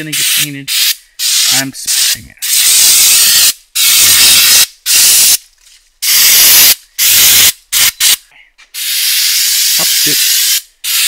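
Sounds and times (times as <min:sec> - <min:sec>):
aerosol spray can hissing: 0:00.2 - 0:05.4, 0:06.0 - 0:08.2, 0:08.8 - 0:11.0.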